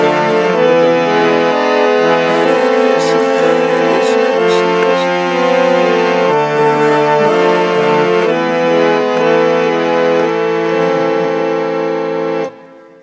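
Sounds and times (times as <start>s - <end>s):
harmonium playing chords: 0.0s - 13.0s.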